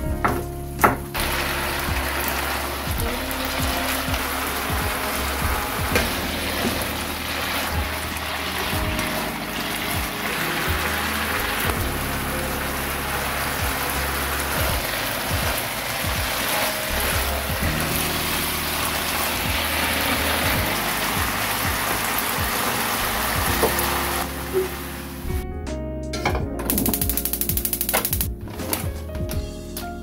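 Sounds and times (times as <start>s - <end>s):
background music: 0.0s - 30.0s
food sizzling in a frying pan: 1.2s - 25.2s.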